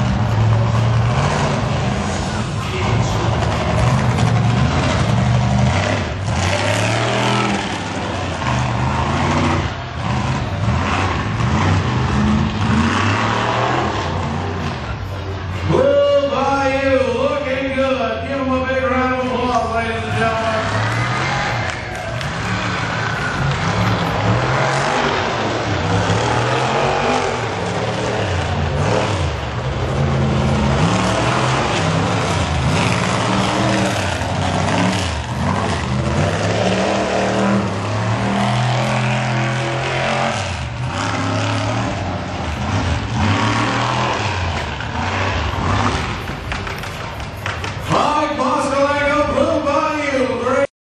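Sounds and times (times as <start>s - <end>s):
truck engine revving hard: 0.0s - 50.7s.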